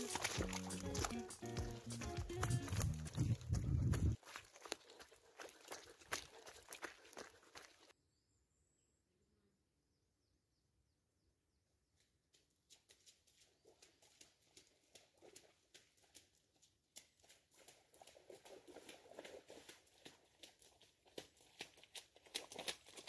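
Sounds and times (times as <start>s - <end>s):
footsteps on muddy trail: 0.0s - 7.9s, 12.3s - 23.0s.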